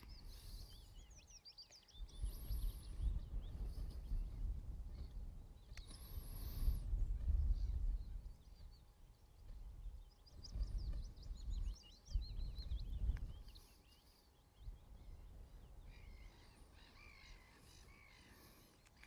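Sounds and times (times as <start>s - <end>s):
birds chirping: 0.0s - 19.0s
wind rumbling on microphone: 0.0s - 19.0s.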